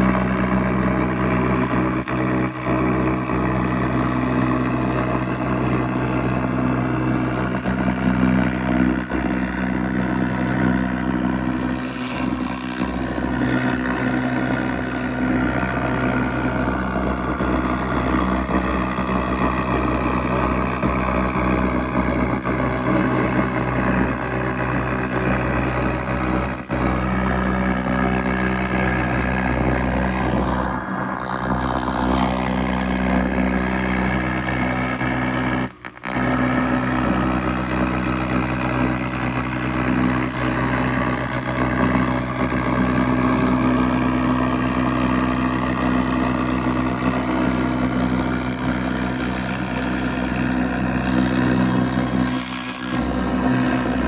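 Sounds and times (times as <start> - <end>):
laser rust remover humming: 0.0 - 54.0.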